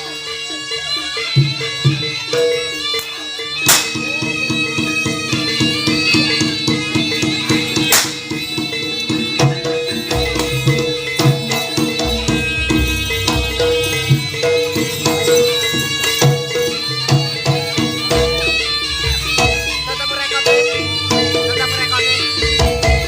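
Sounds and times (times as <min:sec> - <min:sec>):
gamelan percussion: 0:00.0 - 0:23.0
reedy wind instrument melody: 0:00.0 - 0:23.0
hand drums beating: 0:03.6 - 0:23.0.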